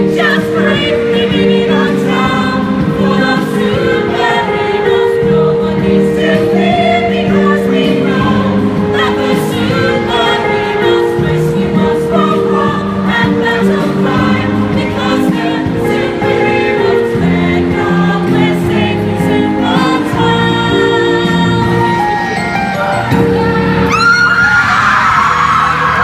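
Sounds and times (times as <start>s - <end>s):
group singing in chorus: 0.0s - 22.3s
backing music with steady beat: 0.0s - 26.0s.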